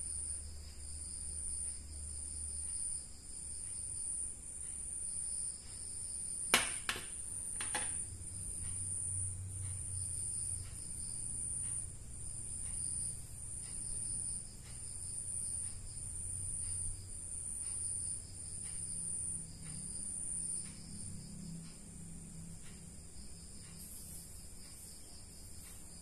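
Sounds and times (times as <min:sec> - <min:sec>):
insect chirping in high trills: 0:00.0 - 0:26.0
low steady hum: 0:00.0 - 0:26.0.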